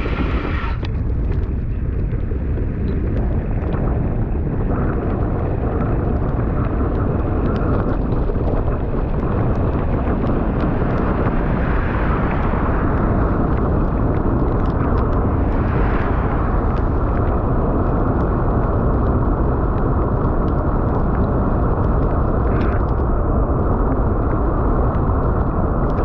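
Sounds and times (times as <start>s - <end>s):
wind rumble on microphone: 0.0s - 26.0s
raindrop ticks: 0.8s - 26.0s.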